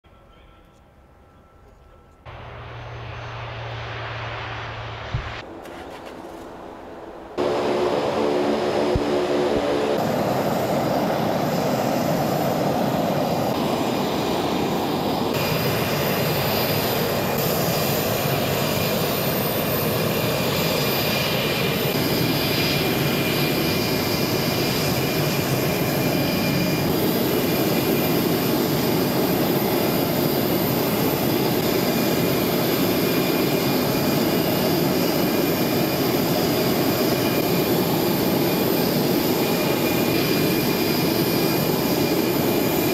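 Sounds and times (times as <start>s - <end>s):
high engine whine: 0.7s - 42.9s
turboprop engines running: 1.6s - 42.9s.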